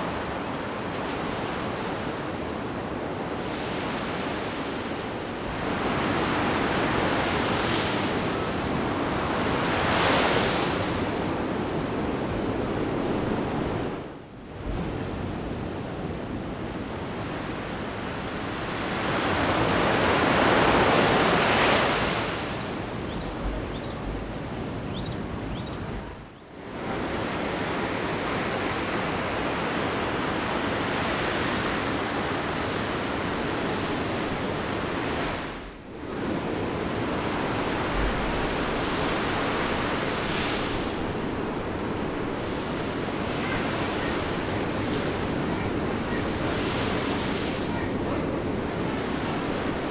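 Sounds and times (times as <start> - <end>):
ocean waves breaking on beach: 0.0 - 49.9.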